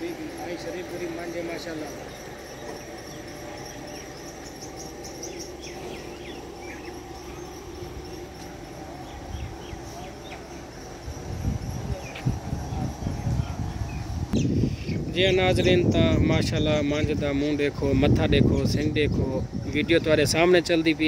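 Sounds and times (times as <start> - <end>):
high insect trill: 0.0 - 21.0
low rumbling on microphone: 1.9 - 20.9.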